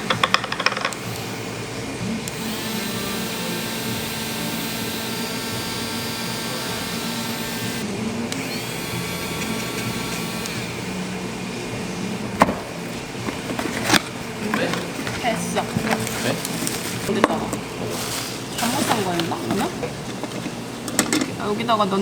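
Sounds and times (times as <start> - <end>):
steady hum: 0.0 - 22.0
electric motor whining: 0.9 - 20.8.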